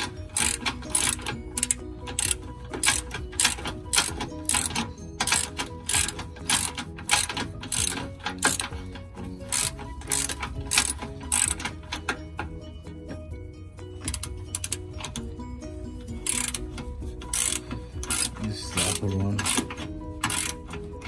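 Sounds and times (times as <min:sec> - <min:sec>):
ratchet wrench clicking: 0:00.0 - 0:12.6, 0:14.0 - 0:15.4, 0:16.0 - 0:21.0.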